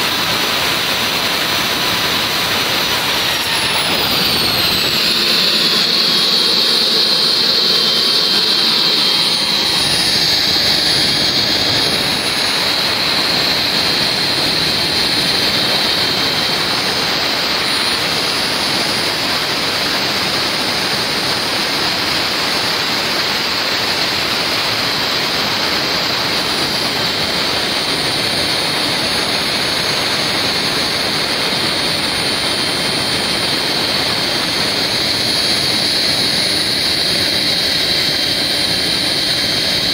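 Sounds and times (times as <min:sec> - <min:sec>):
jet engine intake and exhaust rush: 0:00.0 - 0:39.9
jet engine turbine whine: 0:00.0 - 0:39.9.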